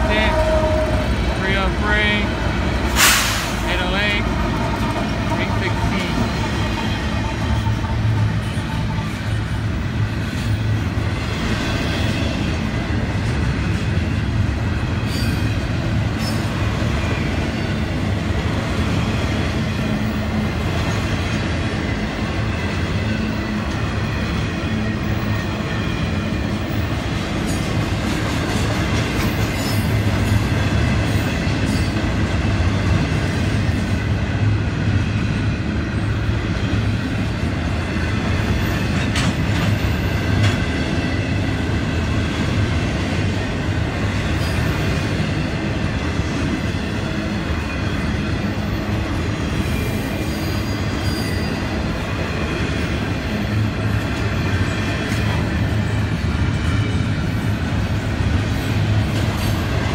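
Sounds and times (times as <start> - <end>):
clickety-clack of rail joints: 0.0 - 59.9
freight train wheels rumbling on rail: 0.0 - 59.9.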